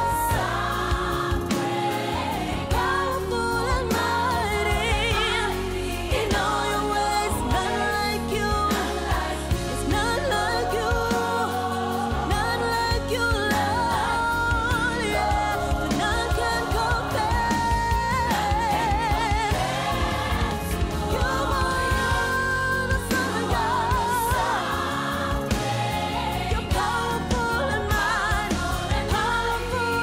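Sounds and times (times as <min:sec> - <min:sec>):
backing vocal group: 0:00.0 - 0:30.0
band accompaniment: 0:00.0 - 0:30.0
woman singing gospel song: 0:00.0 - 0:30.0.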